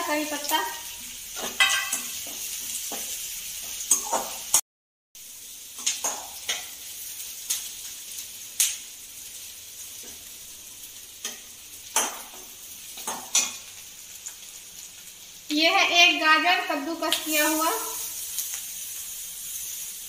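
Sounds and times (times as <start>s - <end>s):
onion sizzling in hot oil: 0.0s - 4.6s, 5.2s - 20.0s.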